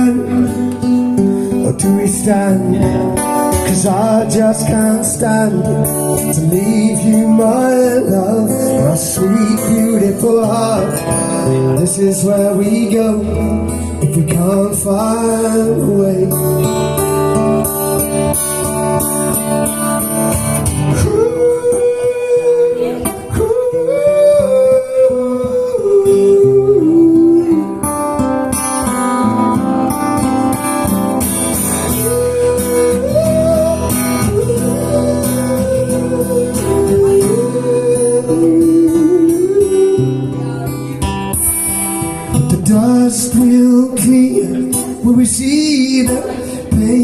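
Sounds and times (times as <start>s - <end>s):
acoustic guitar playing: 0.0s - 47.0s.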